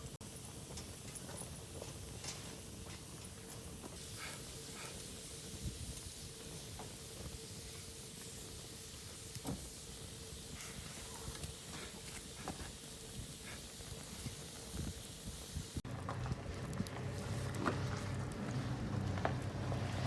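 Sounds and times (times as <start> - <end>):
campfire hissing and crackling: 0.0 - 20.0.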